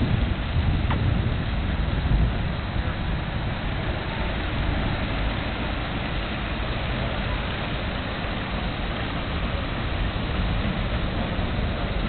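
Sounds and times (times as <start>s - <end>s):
old car engines rumbling: 0.0s - 12.0s.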